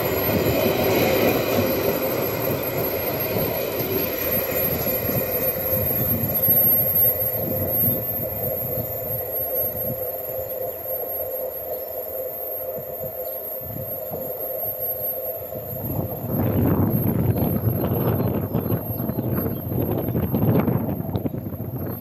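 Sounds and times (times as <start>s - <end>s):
electric train rumbling past: 0.0s - 22.0s.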